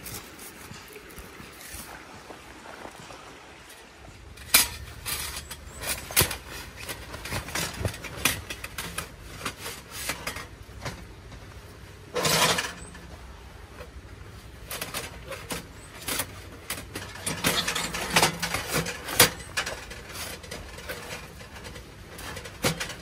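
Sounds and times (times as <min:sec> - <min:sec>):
low steady rumble: 0:00.0 - 0:23.0
metal pipes knocking and scraping: 0:04.2 - 0:23.0.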